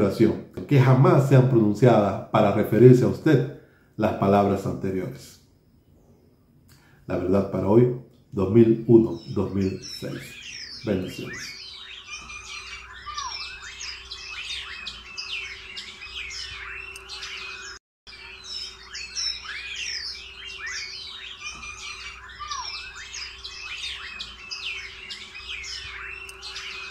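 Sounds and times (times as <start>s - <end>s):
faint steady hum: 0.0s - 26.9s
small birds chirping: 0.0s - 26.9s.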